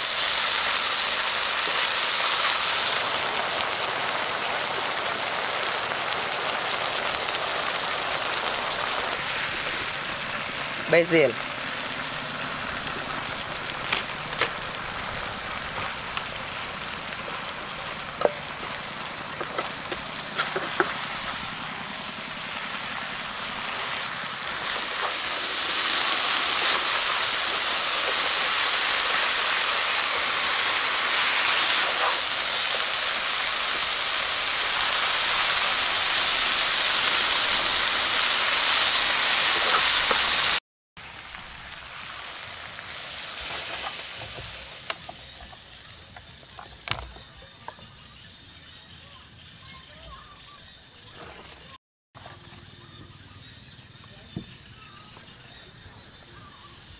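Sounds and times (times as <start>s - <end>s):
food sizzling in a wok: 0.0s - 51.1s.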